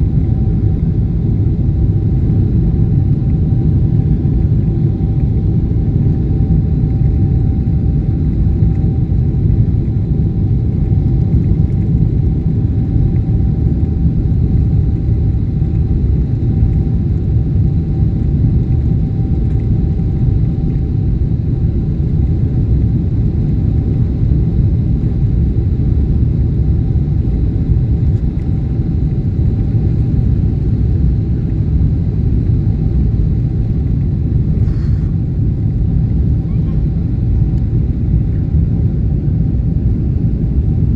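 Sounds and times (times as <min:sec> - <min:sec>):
low rumble of jet engines: 0:00.0 - 0:40.9.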